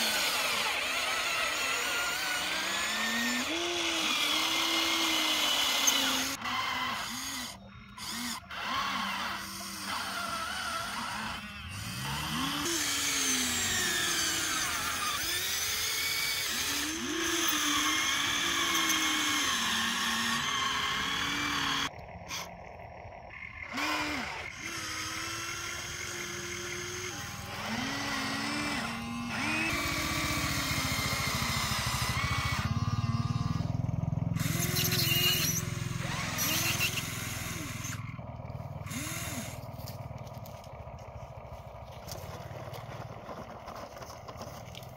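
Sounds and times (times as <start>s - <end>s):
toy electric motors whining: 0.0s - 44.9s.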